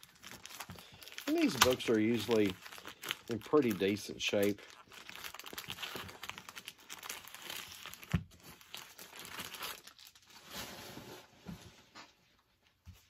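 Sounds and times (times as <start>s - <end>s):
plastic wrapping crinkling and tearing: 0.0s - 10.7s.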